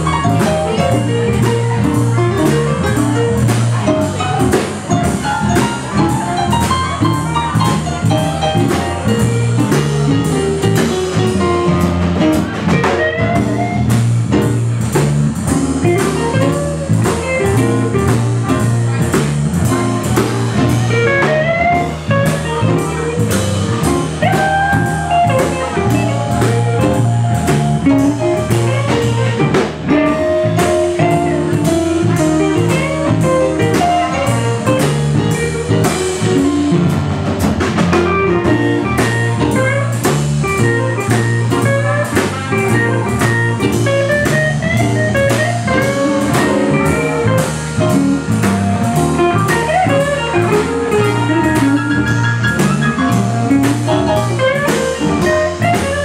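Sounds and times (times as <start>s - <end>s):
drum kit: 0.0s - 56.0s
electronic keyboard: 0.0s - 56.0s
guitar: 0.0s - 56.0s
repeating bass line: 0.0s - 56.0s.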